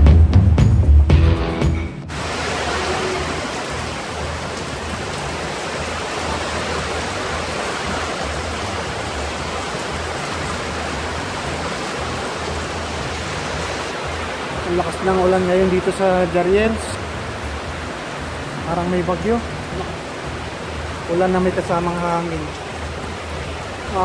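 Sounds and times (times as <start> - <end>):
rain on metal roof: 2.1 - 24.0.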